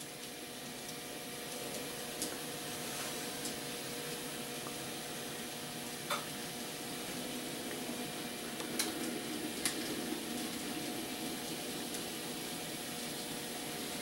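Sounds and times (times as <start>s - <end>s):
model train hiss and hum: 1.0s - 14.0s.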